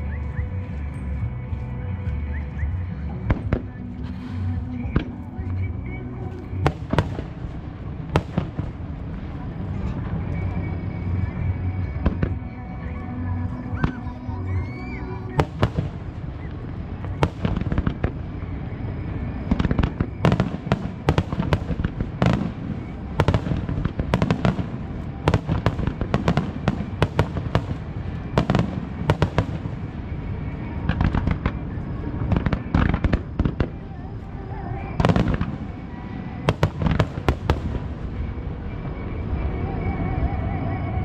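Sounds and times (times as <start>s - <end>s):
fireworks cracking and booming: 3.2s - 5.6s, 6.4s - 12.5s, 15.3s - 39.6s.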